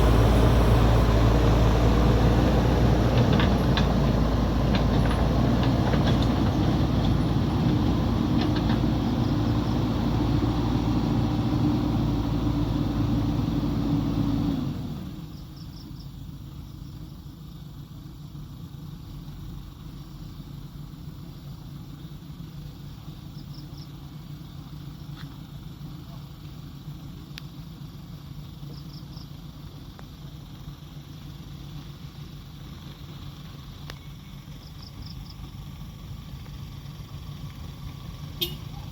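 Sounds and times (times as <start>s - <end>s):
heavy diesel engine running: 0.0s - 15.6s, 16.2s - 38.9s.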